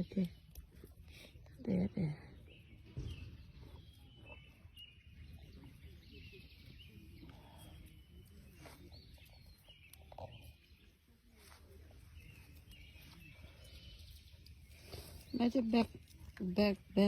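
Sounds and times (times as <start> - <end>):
faint bird chirps: 0.0 - 16.6
outdoor background noise: 0.0 - 17.0.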